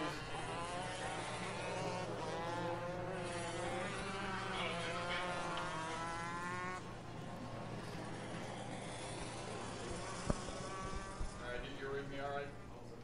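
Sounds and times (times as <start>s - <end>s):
kart engines buzzing whine: 0.0s - 13.0s.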